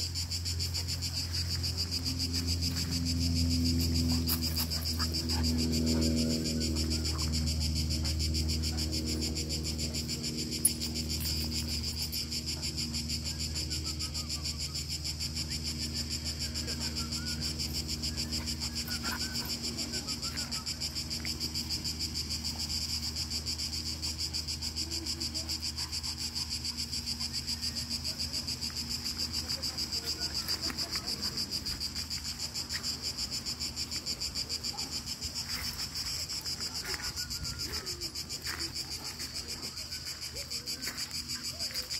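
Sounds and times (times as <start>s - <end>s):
insect chorus buzzing: 0.0s - 41.9s.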